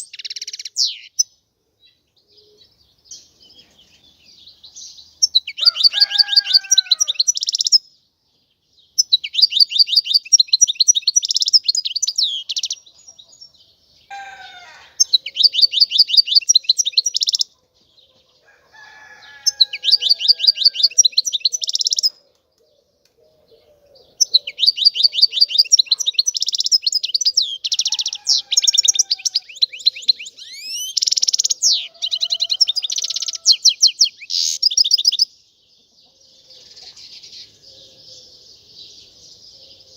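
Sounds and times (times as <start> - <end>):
bird twittering trills: 0.0 - 7.9, 8.9 - 13.4, 14.0 - 17.5, 18.8 - 22.2, 23.6 - 39.9.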